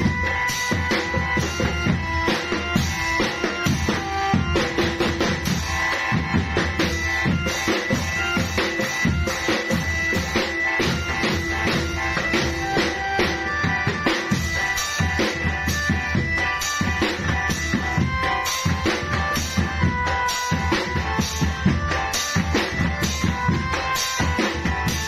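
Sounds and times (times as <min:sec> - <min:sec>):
held melody notes: 0:00.0 - 0:25.0
many drums beating: 0:00.0 - 0:25.0.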